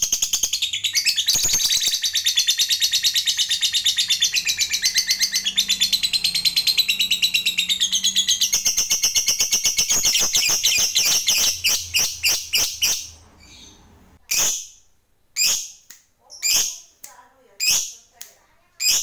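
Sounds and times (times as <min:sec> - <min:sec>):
lovebird chattering trill: 0:00.0 - 0:14.8, 0:15.4 - 0:17.0, 0:17.6 - 0:18.1, 0:18.8 - 0:19.0.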